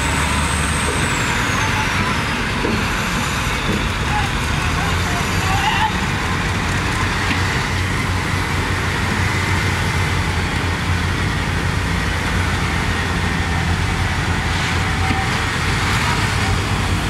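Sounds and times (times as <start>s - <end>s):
diesel dump truck engines: 0.0s - 17.0s.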